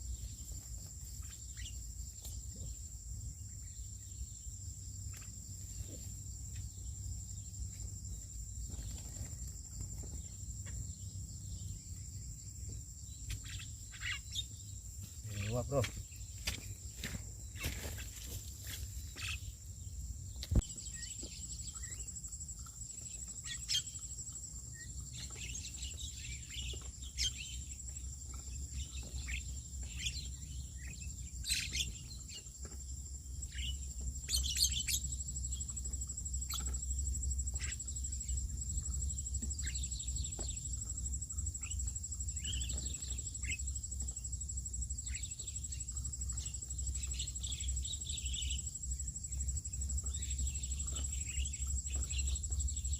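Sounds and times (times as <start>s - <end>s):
birds chirping: 0.0s - 52.9s.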